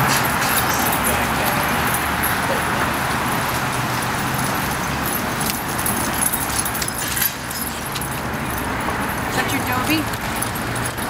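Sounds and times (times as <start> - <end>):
city background noise: 0.0 - 11.0
light metallic jingling: 0.0 - 11.0.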